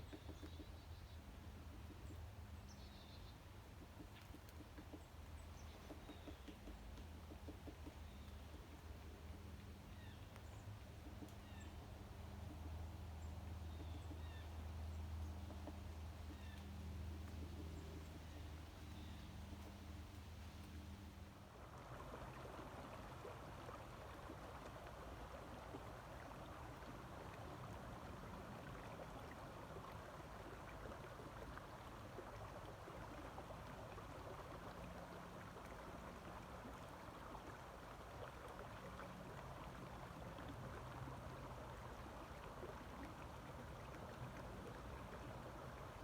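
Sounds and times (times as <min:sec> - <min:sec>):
creek water flowing: 0:00.0 - 0:46.0.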